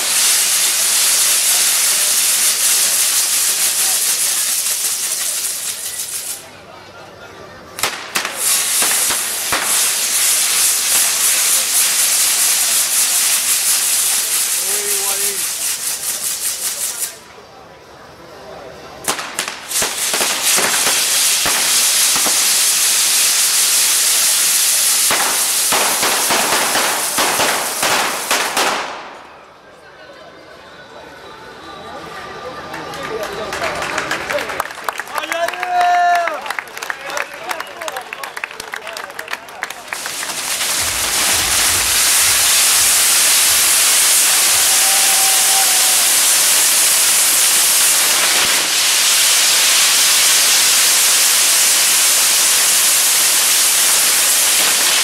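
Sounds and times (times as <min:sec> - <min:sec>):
fireworks hissing: 0:00.0 - 0:29.6, 0:32.8 - 0:55.0.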